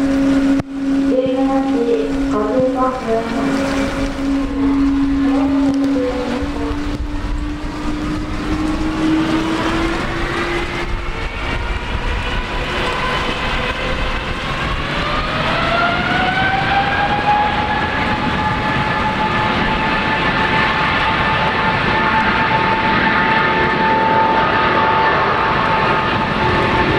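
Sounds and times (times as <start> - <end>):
deep engine rumble: 0.0 - 26.9
jet engine whine rising: 0.0 - 26.9.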